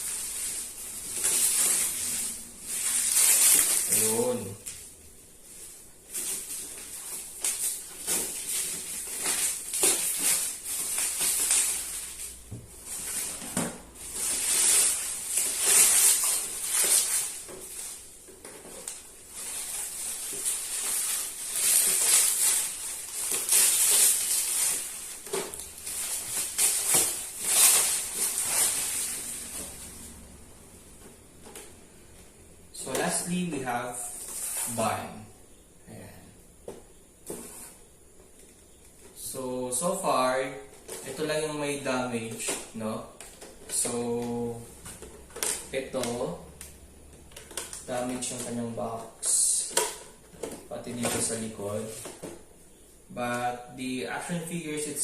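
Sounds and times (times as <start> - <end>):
plastic and cardboard crinkling: 0.0 - 35.2, 36.7 - 55.0.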